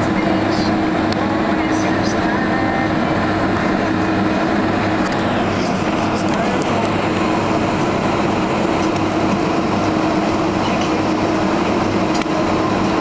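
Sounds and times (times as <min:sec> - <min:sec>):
aircraft cabin rumble: 0:00.0 - 0:13.0
constant low hum: 0:00.0 - 0:13.0.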